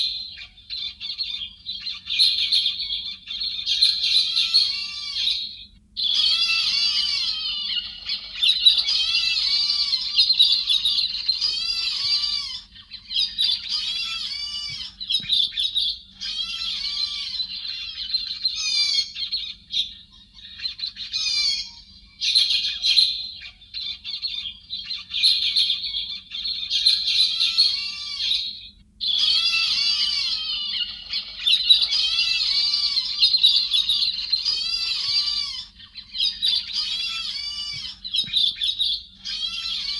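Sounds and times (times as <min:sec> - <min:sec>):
faint low hum: 0:00.0 - 0:39.9
flock of birds chattering: 0:00.0 - 0:39.9.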